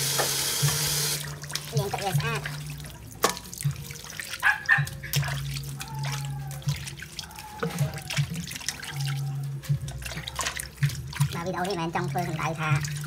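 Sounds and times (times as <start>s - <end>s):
water running into steel basin: 0.0s - 13.0s.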